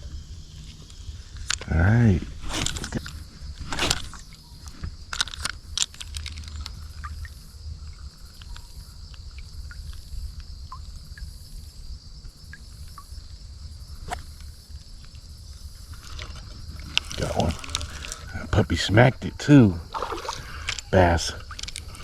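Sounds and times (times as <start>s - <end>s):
insect chorus trilling: 0.0s - 22.0s.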